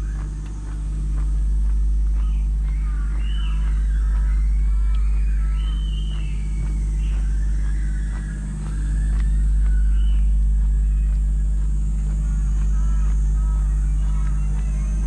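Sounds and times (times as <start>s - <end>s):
birds chirping: 0.0s - 15.0s
footsteps on asphalt: 0.0s - 15.0s
steady low rumble: 0.0s - 15.0s.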